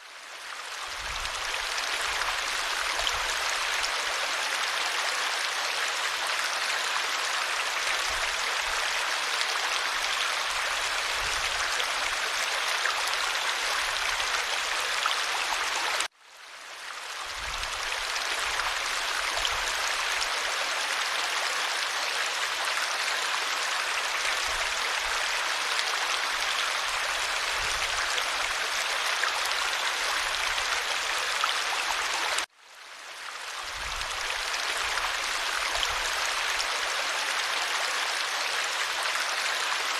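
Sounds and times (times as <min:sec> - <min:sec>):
stream water rushing: 0:00.4 - 0:16.1, 0:16.8 - 0:32.5, 0:33.2 - 0:39.9.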